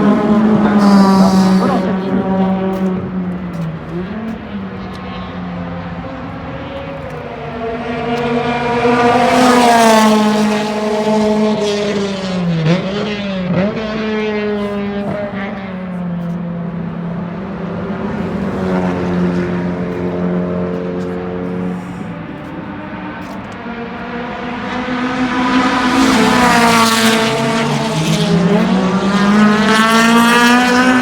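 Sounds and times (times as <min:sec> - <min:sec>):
race car engine running: 0:00.0 - 0:31.0.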